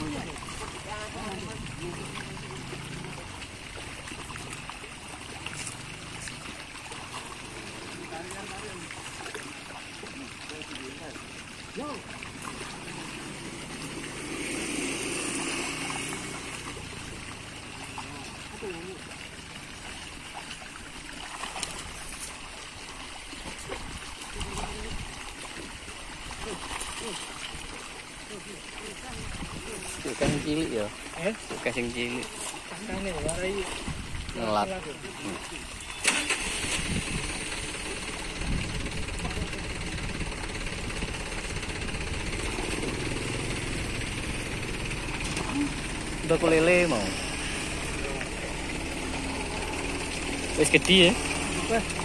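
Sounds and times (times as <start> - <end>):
pond water splashing: 0.0 - 52.0.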